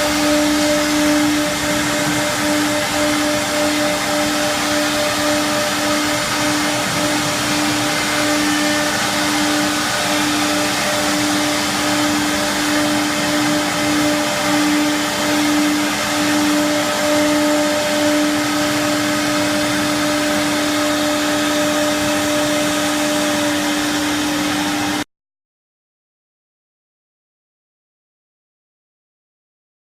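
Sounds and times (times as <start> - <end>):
cnc router humming: 0.0 - 25.1.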